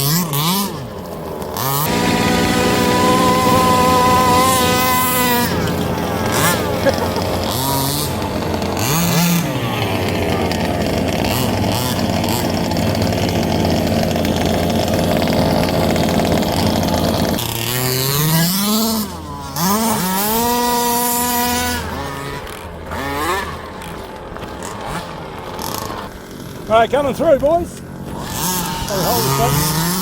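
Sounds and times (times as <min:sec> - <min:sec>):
small two-stroke engines revving: 0:00.0 - 0:30.0.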